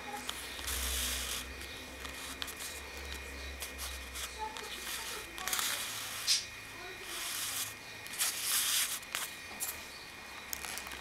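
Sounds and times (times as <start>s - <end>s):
paper rustling: 0.1s - 6.4s, 7.0s - 9.4s, 10.5s - 11.0s.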